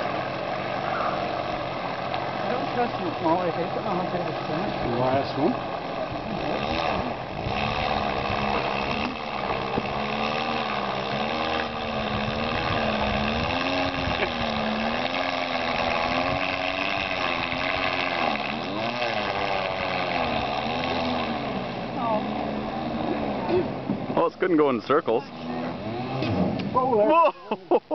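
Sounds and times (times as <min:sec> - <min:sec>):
small outboard engine running hard: 0:00.0 - 0:27.9.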